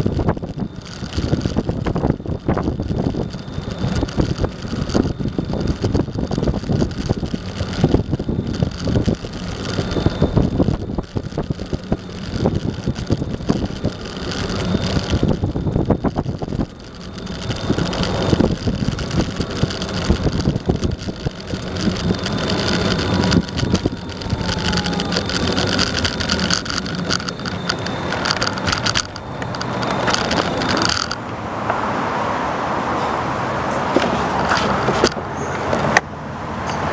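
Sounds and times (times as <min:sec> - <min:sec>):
rattling clatter: 0:00.0 - 0:31.3
skateboard wheel rumble: 0:00.0 - 0:31.4, 0:33.8 - 0:36.0.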